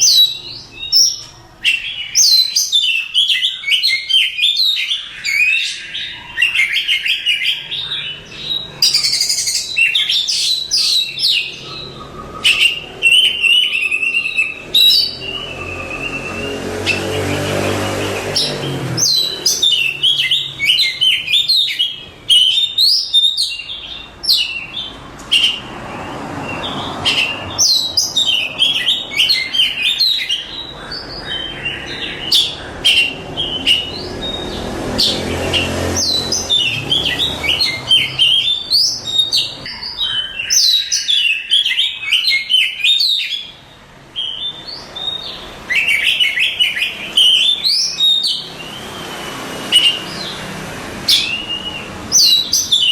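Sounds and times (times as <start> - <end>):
bird singing chirps and whistles: 0.0 - 25.7, 26.4 - 50.5, 51.1 - 52.9.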